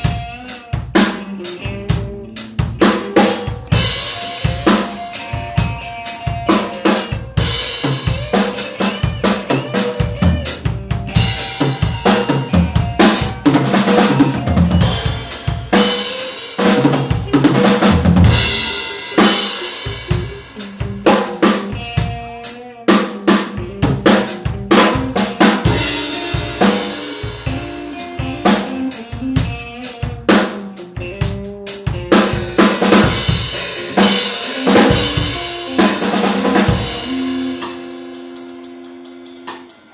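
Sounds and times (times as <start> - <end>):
bending guitar notes: 0.0 - 39.9
drum kit playing: 0.0 - 39.9.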